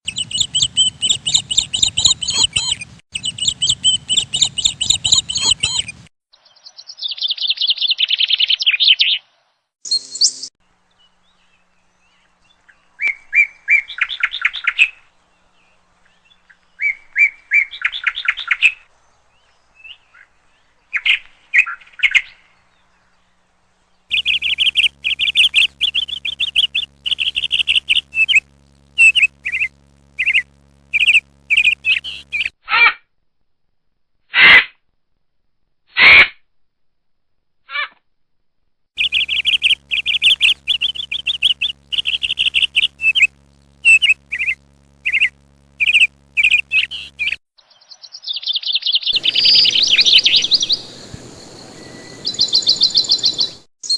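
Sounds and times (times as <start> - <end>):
songbirds singing: 0.1 - 32.5, 39.0 - 53.9.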